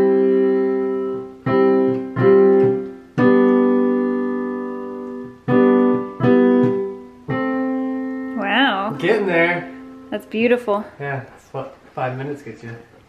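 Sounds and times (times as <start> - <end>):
digital piano chords: 0.0 - 10.8.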